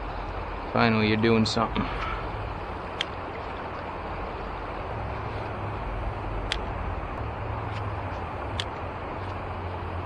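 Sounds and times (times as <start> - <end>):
river flowing: 0.0 - 10.0.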